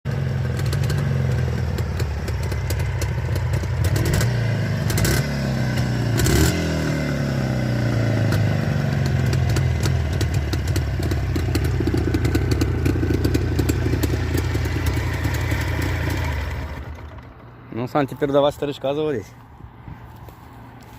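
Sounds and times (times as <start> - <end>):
two-stroke motorcycle engine revving: 0.1 - 17.6.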